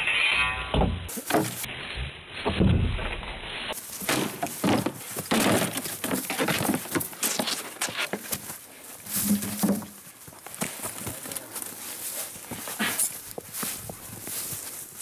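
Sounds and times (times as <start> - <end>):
feet scuffling in dry leaves: 1.1 - 15.0.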